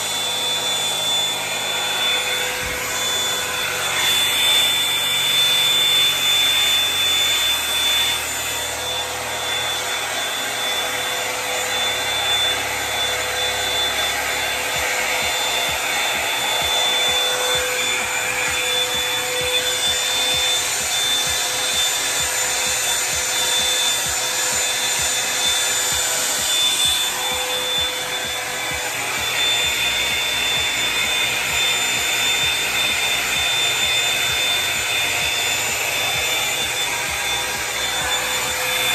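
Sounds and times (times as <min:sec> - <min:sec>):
hot-air brush blowing with motor whine: 0:00.0 - 0:38.9.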